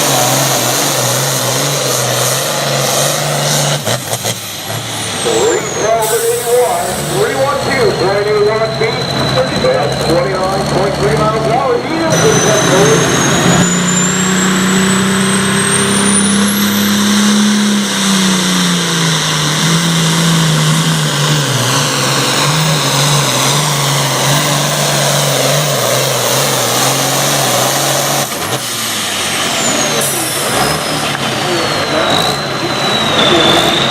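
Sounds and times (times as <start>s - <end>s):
diesel engine at full power: 0.0s - 33.9s.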